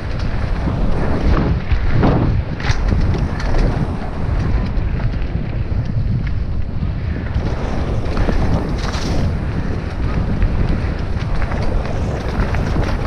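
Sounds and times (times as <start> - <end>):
bike rattles and clicks: 0.0 - 13.0
bike tyre noise: 0.0 - 13.0
wind buffeting microphone: 0.0 - 13.0.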